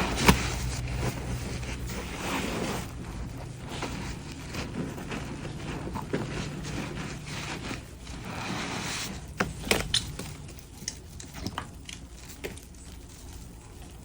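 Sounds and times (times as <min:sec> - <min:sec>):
sponge squelching: 0:00.0 - 0:11.8.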